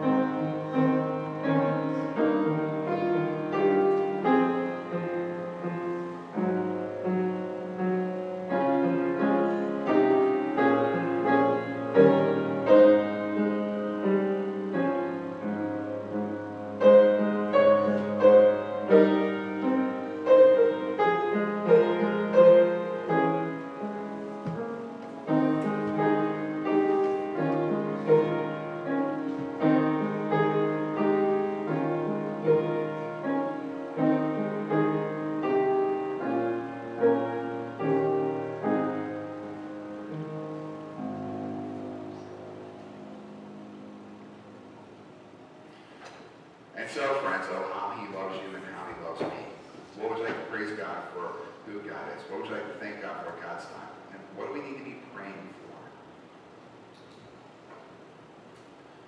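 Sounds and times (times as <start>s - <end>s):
slow meditative piano piece: 0.0s - 59.0s.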